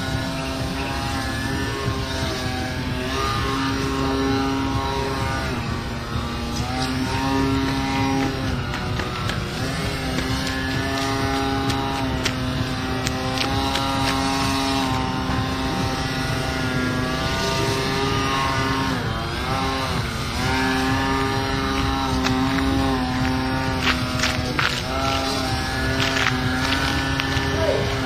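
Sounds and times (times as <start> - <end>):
electric motor propeller whine: 0.0 - 28.0.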